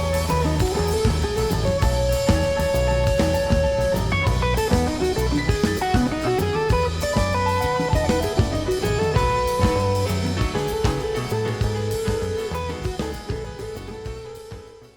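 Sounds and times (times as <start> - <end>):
drum kit: 0.0 - 14.9
electric guitar: 0.0 - 14.9
rock music: 0.0 - 14.9.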